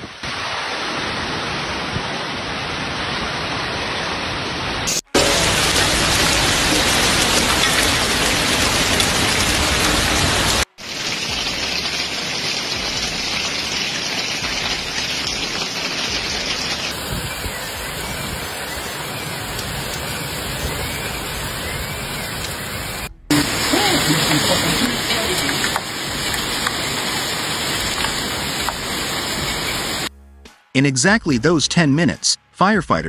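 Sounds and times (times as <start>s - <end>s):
heavy rain downpour: 0.0s - 30.1s.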